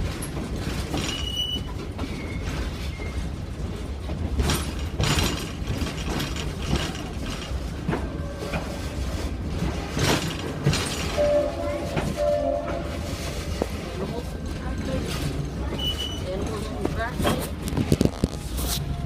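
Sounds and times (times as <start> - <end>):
train rumbling on tracks: 0.0 - 19.0
wheels clacking on rails: 0.0 - 19.0.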